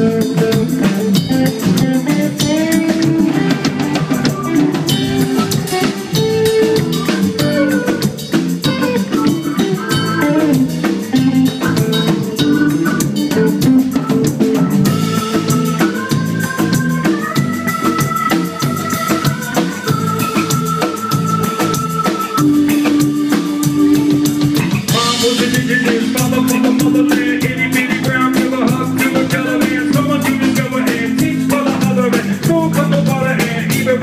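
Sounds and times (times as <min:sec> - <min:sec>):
drum kit: 0:00.0 - 0:34.0
electric guitars: 0:00.0 - 0:34.0
keyboards: 0:00.0 - 0:34.0
live band playing: 0:00.0 - 0:34.0.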